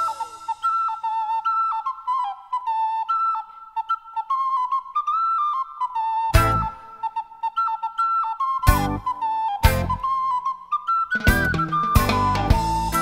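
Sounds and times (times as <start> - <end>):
wind instrument melody: 0.0 - 13.0.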